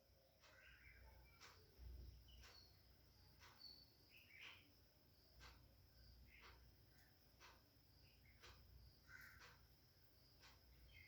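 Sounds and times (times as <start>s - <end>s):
faint bird chirps: 0.0s - 11.0s
soft clicks: 0.4s - 4.7s, 5.3s - 9.7s, 10.3s - 11.0s.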